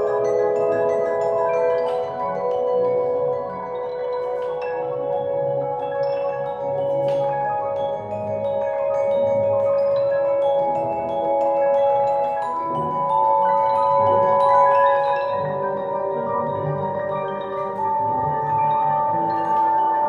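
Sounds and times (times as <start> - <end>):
glockenspiel: 0.0 - 20.0
vibraphone: 0.0 - 20.0.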